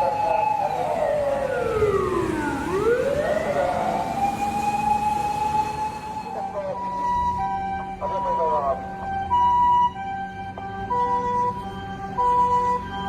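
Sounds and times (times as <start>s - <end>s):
fire engine siren wailing: 0.0s - 13.0s
two-tone hi-lo siren: 0.0s - 13.0s.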